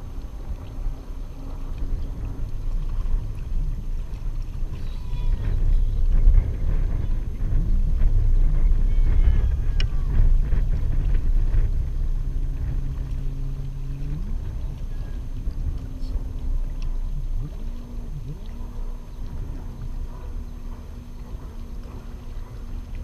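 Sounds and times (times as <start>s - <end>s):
boat engine running: 0.0s - 23.0s
wind rumble on microphone: 0.0s - 23.0s.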